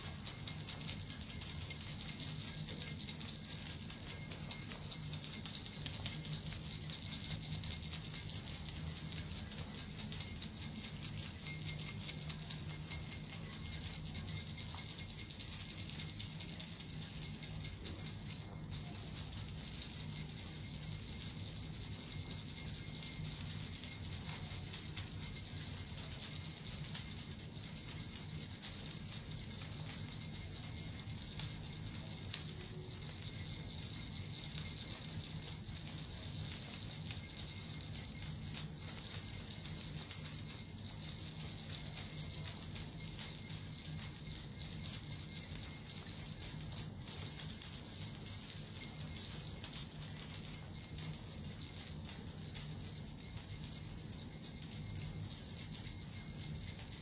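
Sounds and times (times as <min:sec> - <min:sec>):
jingle bells shaken: 0:00.0 - 0:57.0.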